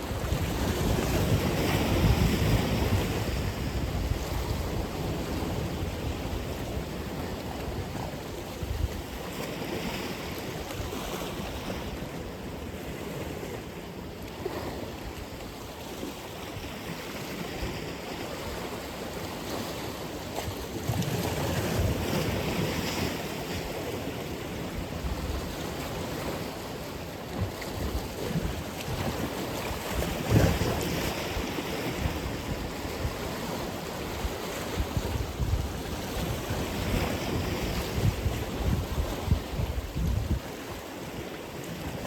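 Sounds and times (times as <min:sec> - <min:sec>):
ocean surf washing on shore: 0:00.0 - 0:42.0
wind rumble on microphone: 0:00.0 - 0:42.0.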